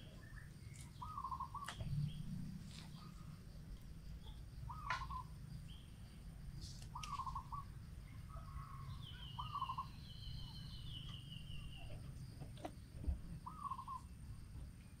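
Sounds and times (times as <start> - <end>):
birds calling: 0.0 - 14.2
faint low rumble: 0.0 - 15.0.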